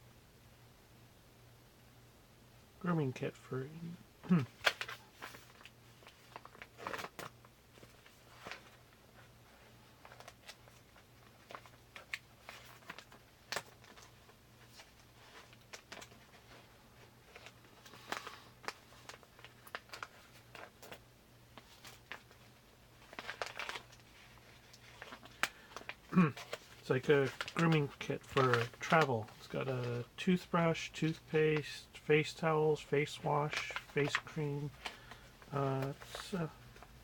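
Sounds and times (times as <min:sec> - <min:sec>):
faint low hum: 0:00.0 - 0:37.0
packaging rustling and crinkling: 0:04.3 - 0:31.8, 0:32.4 - 0:37.0.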